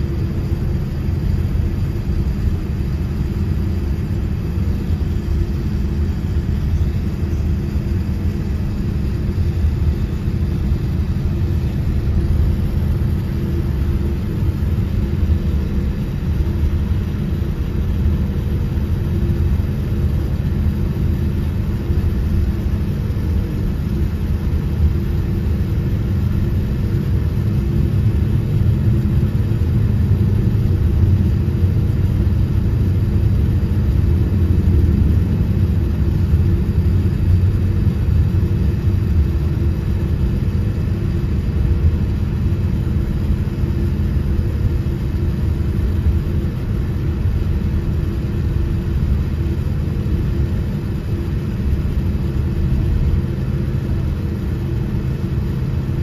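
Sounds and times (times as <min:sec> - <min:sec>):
airliner engines rumbling: 0:00.0 - 0:56.0
faint steady hum: 0:00.0 - 0:56.0.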